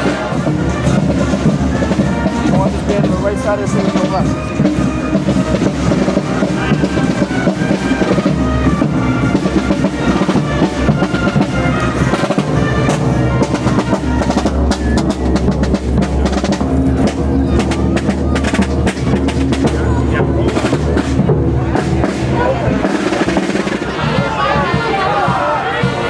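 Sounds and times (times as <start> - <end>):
drum strokes: 0.0 - 26.0
marching band playing: 0.0 - 26.0.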